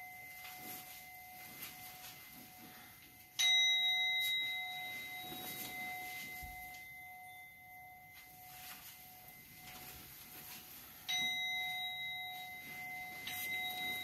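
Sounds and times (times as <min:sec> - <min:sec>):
bowl bell ringing: 0:00.0 - 0:14.0.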